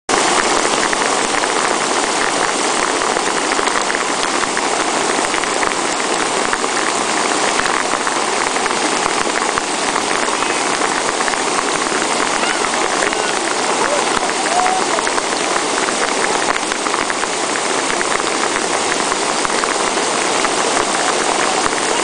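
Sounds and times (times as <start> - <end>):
river rapids rushing: 0.1 - 22.0.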